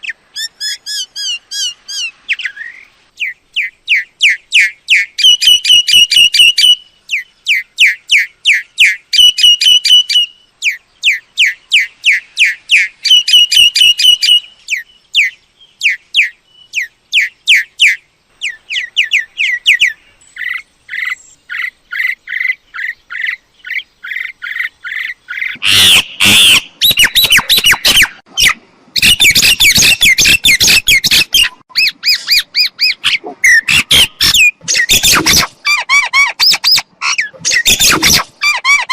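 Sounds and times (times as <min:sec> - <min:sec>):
myna calling: 0:00.0 - 0:38.9.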